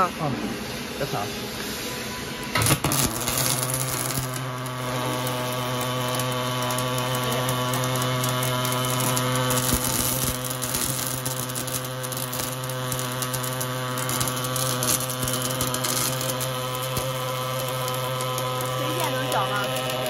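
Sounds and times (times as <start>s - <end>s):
steady electrical hum: 0.0s - 20.0s
welding arc crackling hiss: 0.0s - 20.0s.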